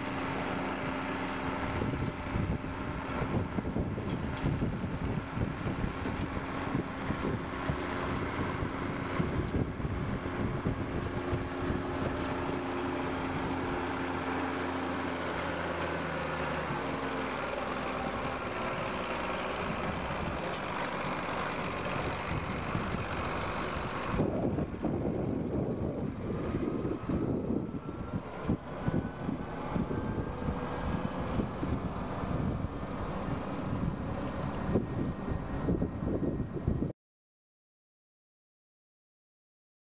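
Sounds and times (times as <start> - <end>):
tractor diesel engine running: 0.0 - 36.9
wind rumble on microphone: 0.2 - 36.9.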